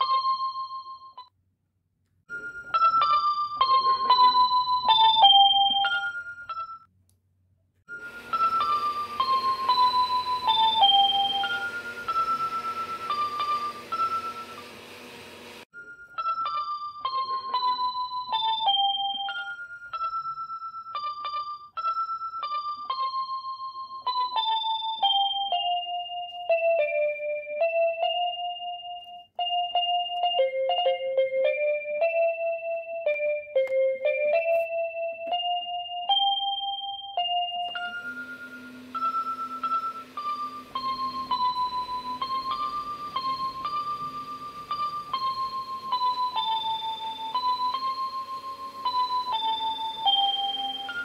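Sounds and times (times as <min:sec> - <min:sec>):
simple keyboard melody: 0:00.0 - 0:01.4, 0:02.3 - 0:07.0, 0:07.9 - 0:51.0.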